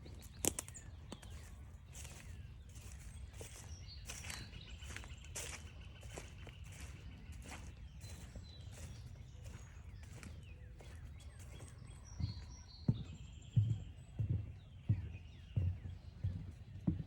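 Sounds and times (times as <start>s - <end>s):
footsteps on forest trail: 0.0s - 13.8s
birds chirping and whistling: 0.0s - 17.0s.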